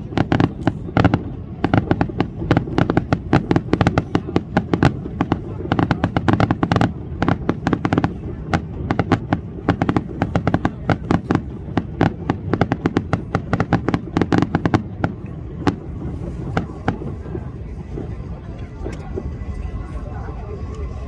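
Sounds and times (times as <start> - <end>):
fireworks crackling and popping: 0.0 - 20.0
low rumble: 0.0 - 21.0.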